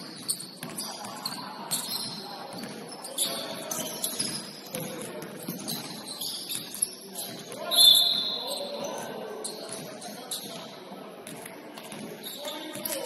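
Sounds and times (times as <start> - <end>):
sneaker squeaks: 0.0 - 13.0.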